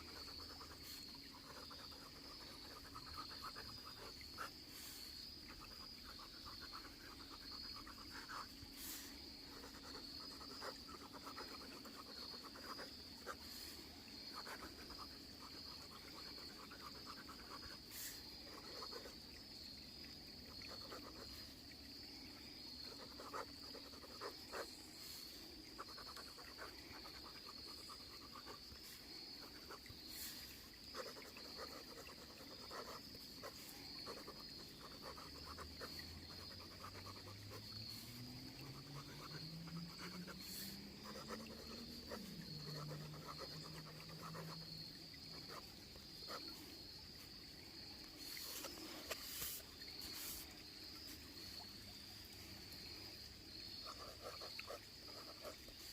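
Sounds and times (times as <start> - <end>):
insect chorus trilling: 0.0 - 55.9.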